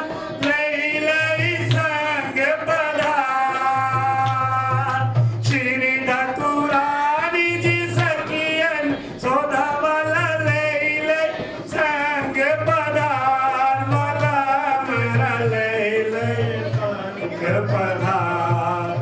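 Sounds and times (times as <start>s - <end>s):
hand drum beating: 0.0s - 19.0s
man singing a hymn: 0.0s - 19.0s.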